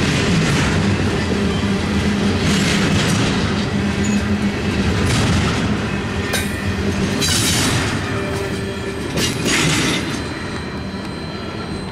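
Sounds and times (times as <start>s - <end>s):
train cars rumbling on rails: 0.0s - 11.9s.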